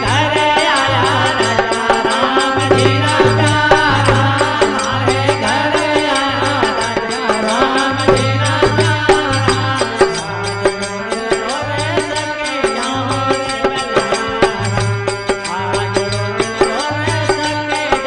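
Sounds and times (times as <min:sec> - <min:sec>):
quick percussion beat: 0:00.0 - 0:18.0.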